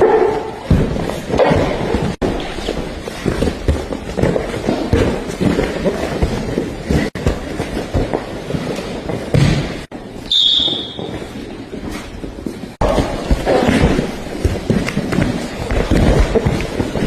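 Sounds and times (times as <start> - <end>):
bodies thudding and scuffling on mats: 0.0 - 17.0.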